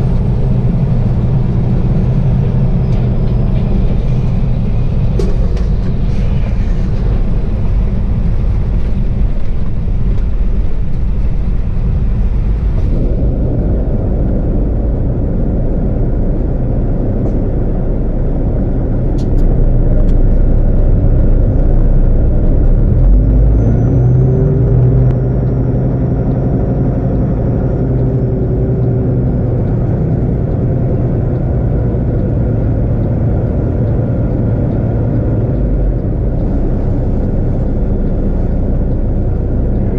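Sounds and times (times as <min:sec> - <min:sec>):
car engine and road noise: 0:00.0 - 0:39.9
pitched drone: 0:00.0 - 0:39.9.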